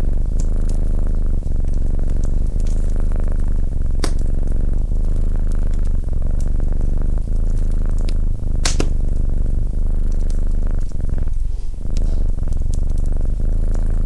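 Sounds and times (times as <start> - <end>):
cat purring: 0.0 - 14.0
wood fire crackling and popping: 0.0 - 14.0.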